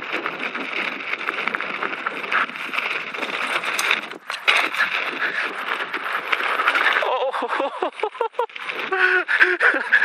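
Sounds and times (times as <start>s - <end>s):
bike rattling: 0.0s - 10.0s
bike tyres crunching on gravel: 0.0s - 10.0s.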